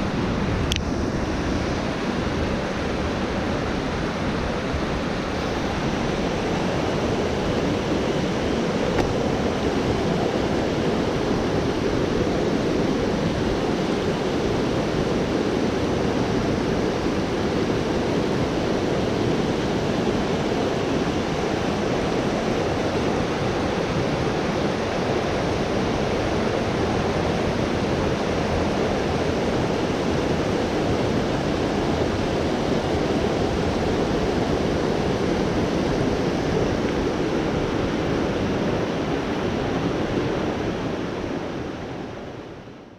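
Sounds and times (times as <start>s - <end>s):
creek rushing over boulders: 0.0s - 42.4s.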